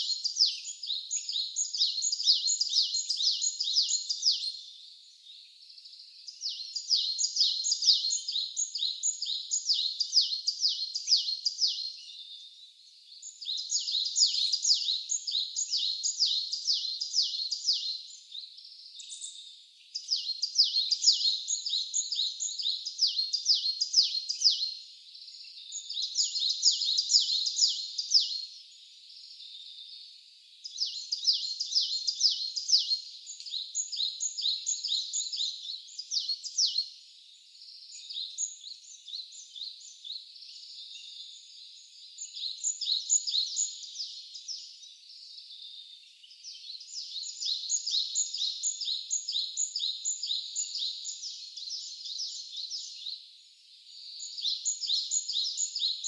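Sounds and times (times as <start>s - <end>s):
songbirds trilling: 0.0s - 56.0s.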